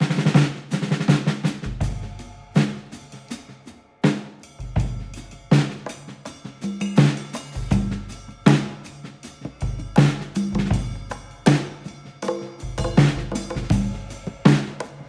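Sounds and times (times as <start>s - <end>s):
lighter drum beats: 0.3s - 15.0s.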